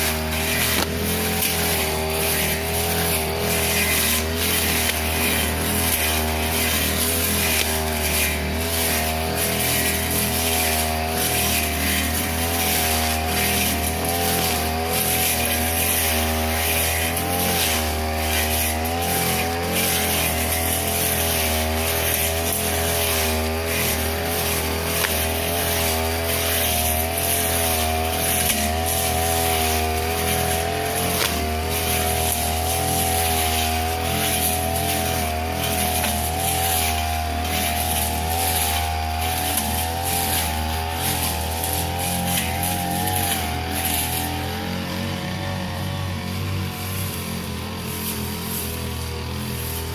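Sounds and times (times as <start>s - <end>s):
brush cutter engine running: 0.0s - 49.9s.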